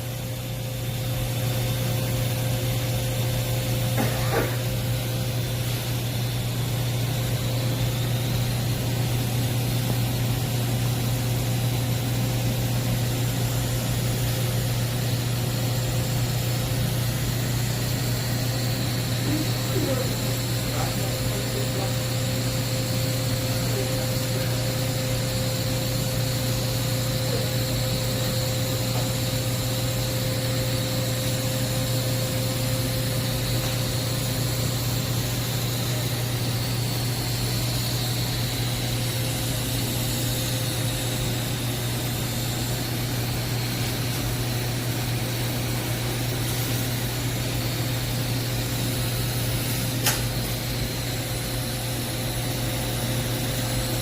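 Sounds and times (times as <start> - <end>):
welding arc hissing and buzzing: 0.0 - 54.0.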